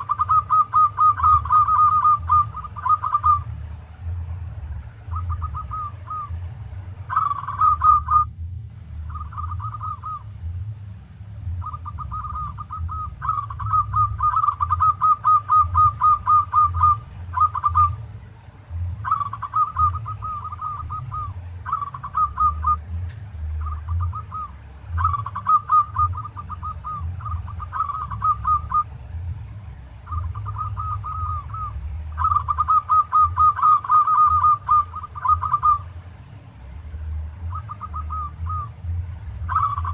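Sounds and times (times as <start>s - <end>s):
dove cooing trills: 0.0s - 39.9s
steady low hum: 0.0s - 39.9s.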